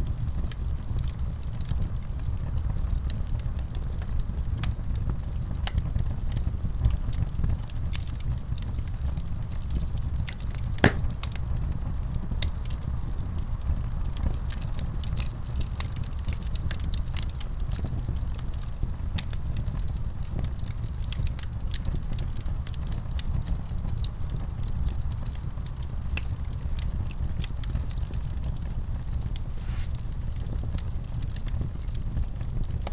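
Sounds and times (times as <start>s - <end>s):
wood fire crackling: 5.0s - 32.9s.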